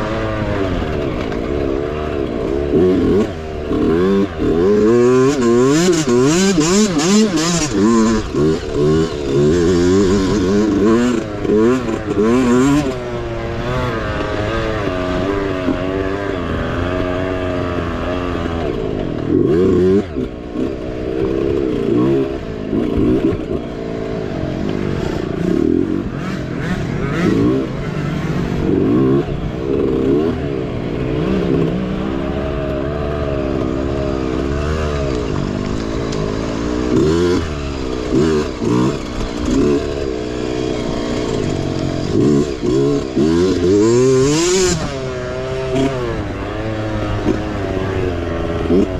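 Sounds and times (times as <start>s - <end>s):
mini bike engine racing: 0.0s - 48.9s.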